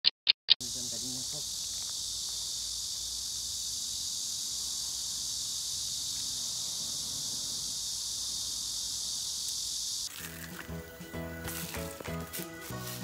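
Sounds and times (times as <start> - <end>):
insects singing: 0.6 - 13.0.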